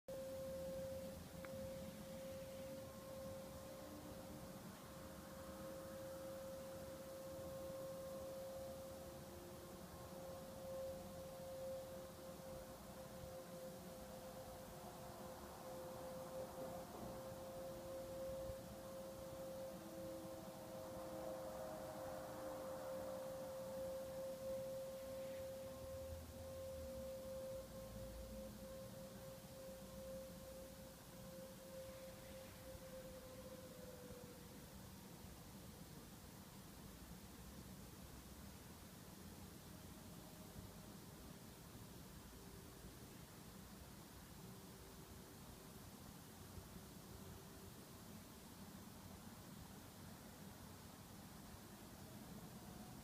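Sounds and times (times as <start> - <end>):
steady humming tone: 0.1 - 53.0.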